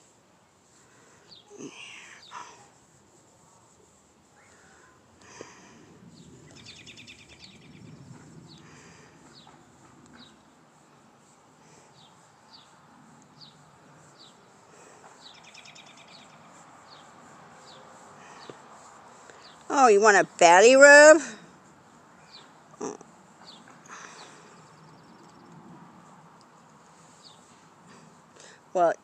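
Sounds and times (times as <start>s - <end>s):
small birds chirping: 0.6s - 5.0s, 6.1s - 10.6s, 11.2s - 20.2s, 21.6s - 25.7s, 26.4s - 28.5s.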